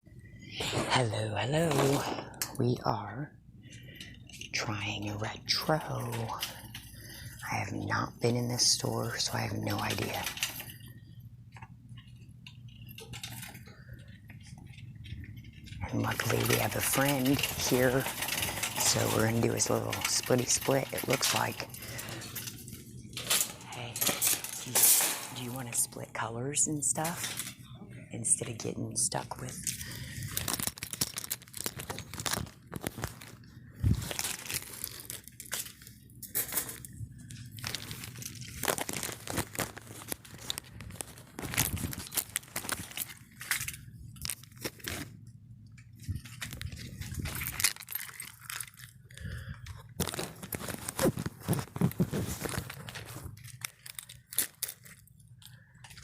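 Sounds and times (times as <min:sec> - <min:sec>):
crinkling and rustling: 0:00.1 - 0:56.0.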